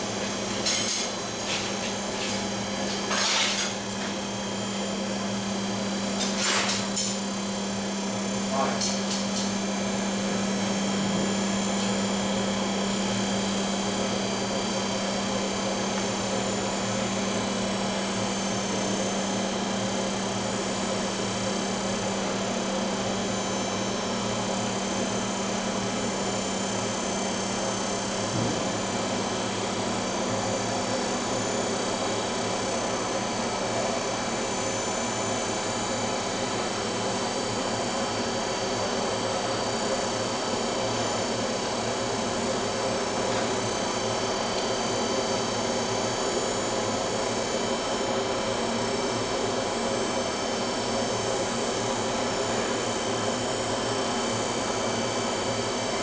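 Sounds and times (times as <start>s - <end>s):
workshop machine hum: 0.0s - 56.0s.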